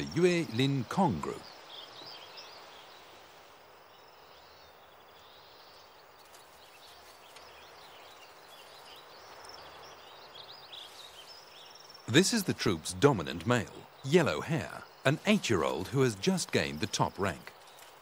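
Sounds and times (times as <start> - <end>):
small birds chirping: 0.0 - 18.0
steady hiss: 0.0 - 18.0.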